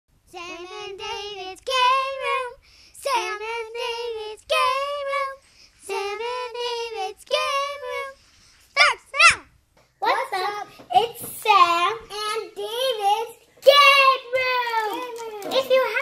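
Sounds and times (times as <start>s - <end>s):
child singing: 0.3s - 8.2s, 10.0s - 16.0s.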